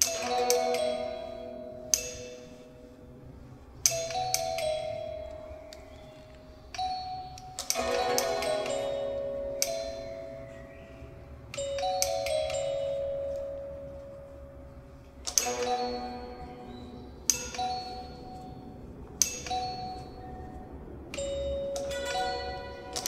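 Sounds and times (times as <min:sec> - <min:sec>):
hammered dulcimer notes: 0:00.0 - 0:14.3, 0:15.2 - 0:20.2, 0:21.2 - 0:23.0.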